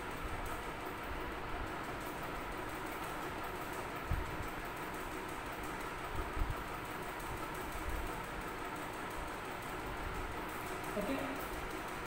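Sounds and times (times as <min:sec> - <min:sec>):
steady whirring noise: 0:00.0 - 0:12.0.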